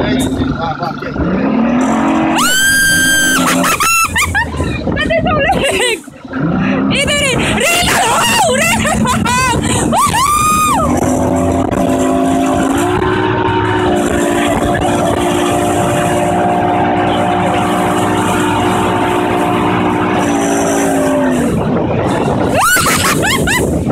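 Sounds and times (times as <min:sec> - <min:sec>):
outboard motor running: 0:00.0 - 0:23.9
rushing water and spray: 0:00.0 - 0:23.9.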